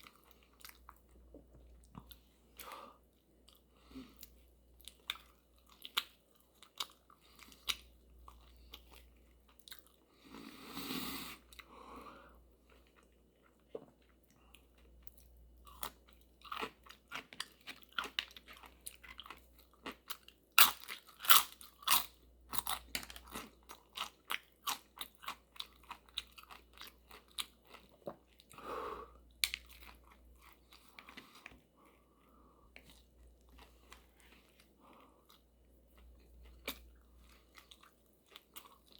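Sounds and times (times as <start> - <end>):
person chewing crisp food: 0.0 - 2.8, 3.4 - 11.7, 12.6 - 28.6, 29.2 - 38.9.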